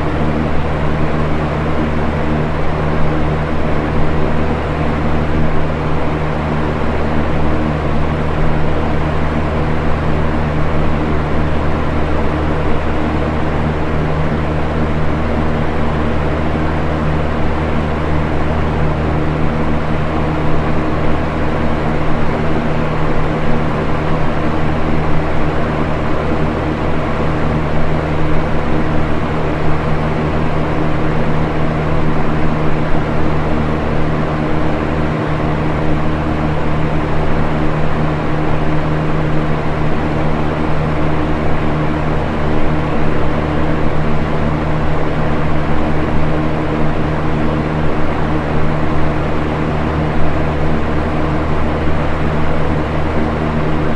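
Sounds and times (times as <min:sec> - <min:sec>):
box fan running: 0:00.0 - 0:53.9
low motor hum: 0:00.0 - 0:53.9.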